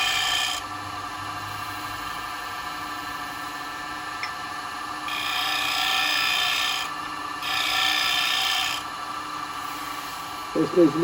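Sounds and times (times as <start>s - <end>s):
wood lathe humming: 0.0s - 11.0s.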